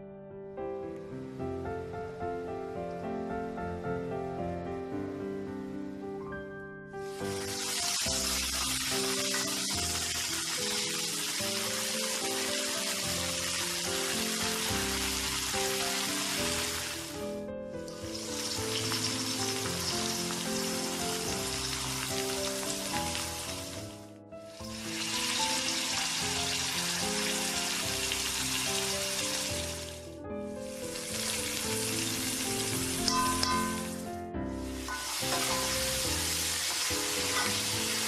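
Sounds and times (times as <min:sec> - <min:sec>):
instrumental background music: 0:00.0 - 0:38.0
oil sizzling in a wok: 0:07.0 - 0:38.0.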